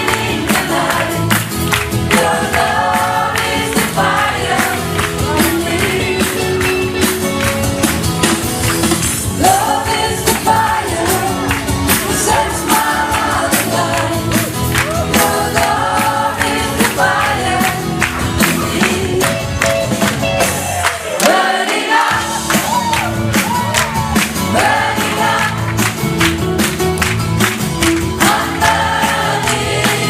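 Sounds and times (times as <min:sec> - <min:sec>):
song with singing voices: 0:00.0 - 0:08.0, 0:08.6 - 0:26.8, 0:27.8 - 0:30.0
percussion beat: 0:00.0 - 0:30.0.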